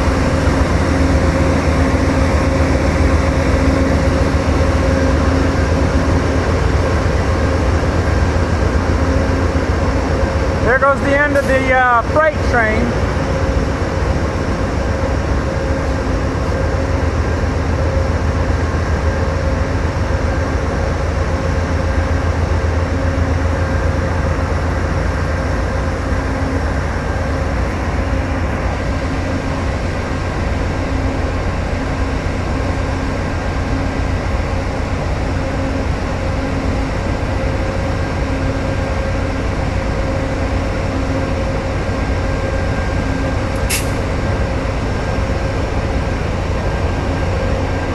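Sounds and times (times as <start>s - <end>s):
diesel locomotive engine running: 0.0s - 47.9s.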